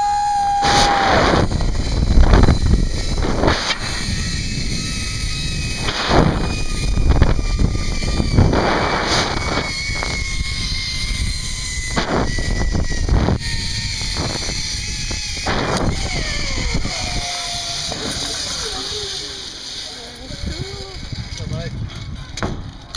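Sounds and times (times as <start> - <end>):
wind buffeting microphone: 0.0 - 19.4, 20.1 - 22.9
pulleys whining along steel cable: 0.0 - 22.9.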